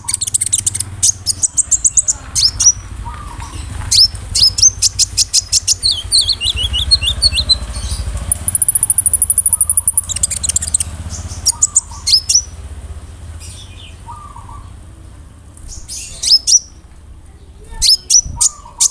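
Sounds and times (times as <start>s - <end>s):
sunbird chirping and trilling: 0.0s - 18.9s.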